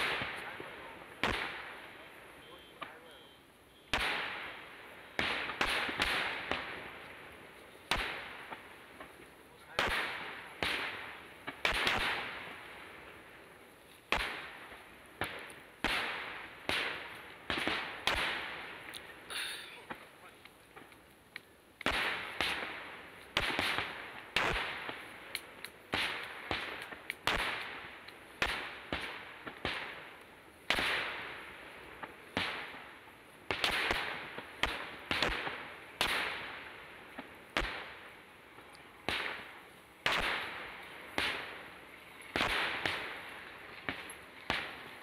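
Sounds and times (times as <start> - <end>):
firework shells bursting: 3.9 - 45.0.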